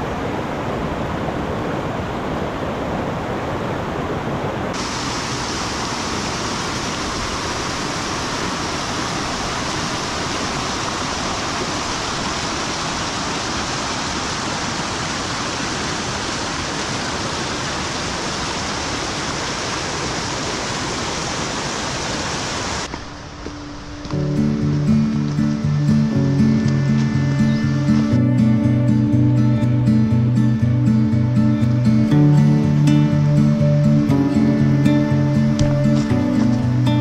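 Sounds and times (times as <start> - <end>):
mountain stream rushing: 0.0 - 37.0.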